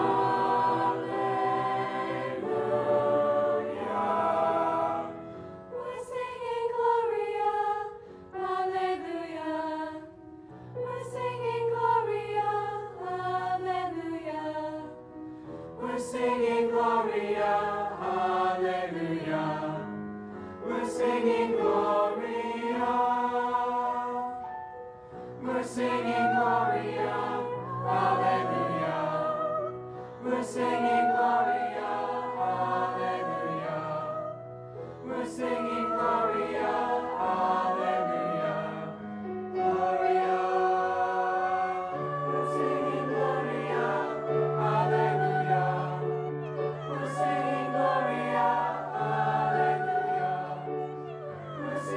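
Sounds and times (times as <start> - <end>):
mixed choir singing in parts: 0.0 - 10.2, 10.8 - 15.0, 15.8 - 24.5, 25.3 - 51.9.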